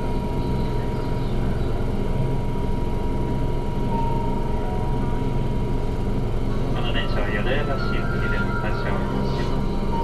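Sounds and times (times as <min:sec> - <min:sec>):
faint high whine: 0:00.0 - 0:10.0
train equipment hum and hiss: 0:00.0 - 0:10.0.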